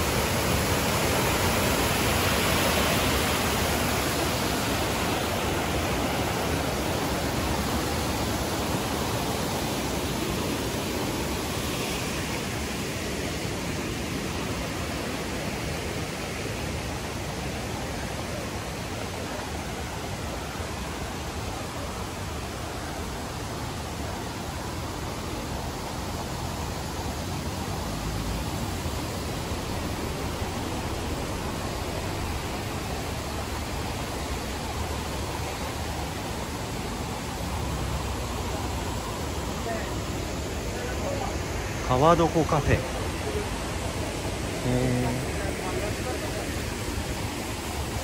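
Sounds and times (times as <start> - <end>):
river rushing: 0.0 - 48.0.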